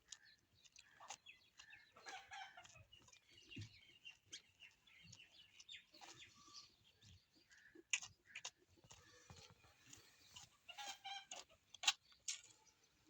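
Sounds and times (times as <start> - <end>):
small birds chirping: 0.0 - 13.0
chickens clucking: 0.1 - 12.8.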